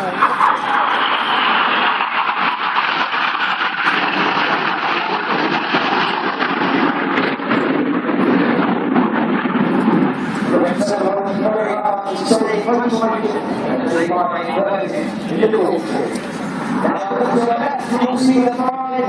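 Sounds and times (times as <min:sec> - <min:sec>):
jet engines flying past: 0:00.0 - 0:19.0.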